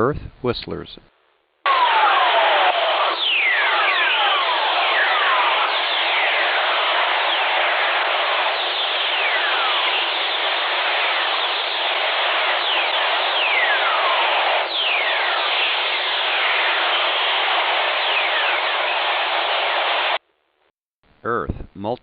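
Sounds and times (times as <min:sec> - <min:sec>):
falling radio whistles: 0:01.7 - 0:20.2
radio static hiss: 0:01.7 - 0:20.2.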